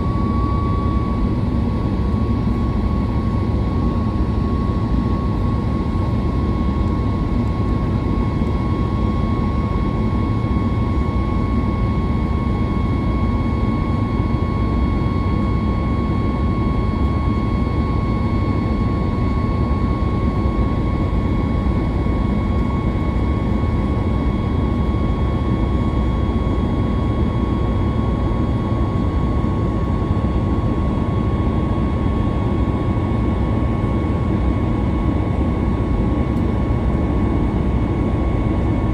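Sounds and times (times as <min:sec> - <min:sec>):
jet engine high whine: 0:00.0 - 0:38.9
jet engines low rumble: 0:00.0 - 0:38.9.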